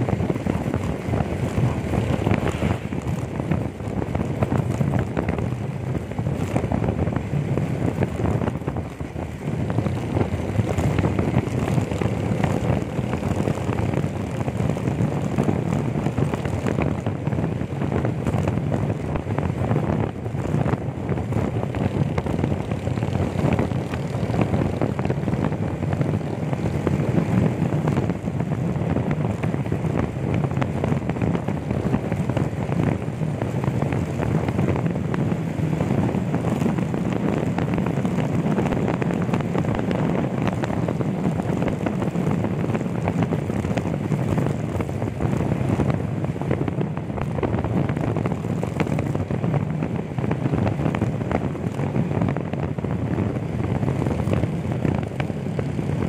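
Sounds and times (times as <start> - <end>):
motorcycle running: 0.0 - 56.0
wind buffeting microphone: 0.0 - 56.0.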